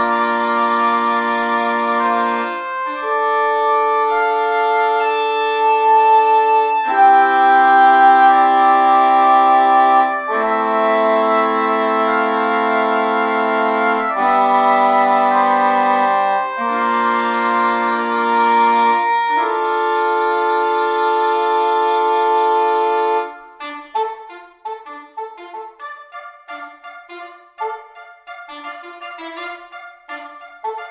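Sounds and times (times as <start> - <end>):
woodwinds playing sustained chords: 0.0 - 30.9.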